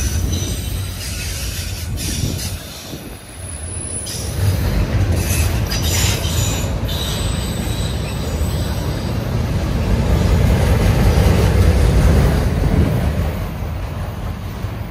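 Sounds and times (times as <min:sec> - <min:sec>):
freight cars rolling on rails: 0:00.0 - 0:14.9.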